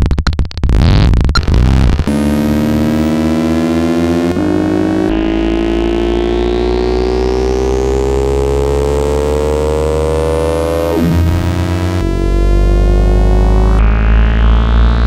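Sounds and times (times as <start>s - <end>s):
synthesized engine revving: 1.4s - 15.0s.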